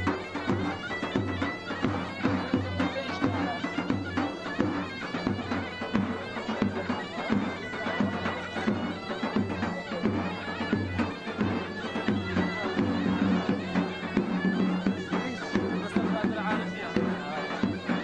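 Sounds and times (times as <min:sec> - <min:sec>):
reedy wind instrument melody: 0:00.0 - 0:18.0
steady drum beat: 0:00.0 - 0:18.0.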